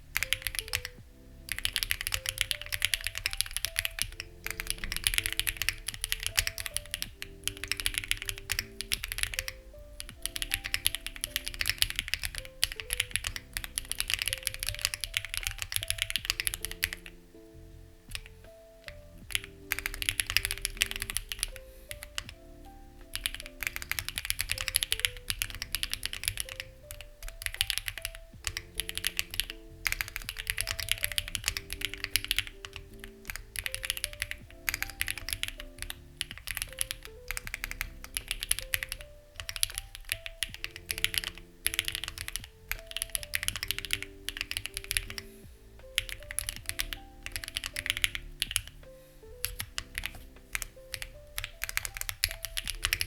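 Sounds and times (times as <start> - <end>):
fast mechanical keyboard typing: 0.0 - 17.2, 18.1 - 22.4, 23.0 - 45.3, 45.9 - 48.8, 49.4 - 53.0
soft background music: 0.0 - 53.0.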